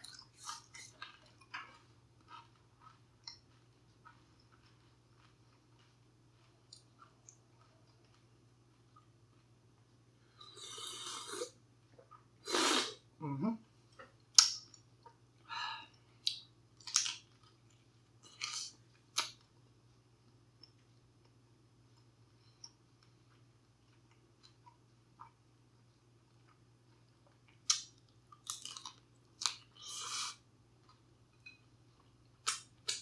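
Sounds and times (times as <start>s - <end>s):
person chewing food: 0.0s - 12.8s, 15.9s - 19.6s, 20.5s - 33.0s.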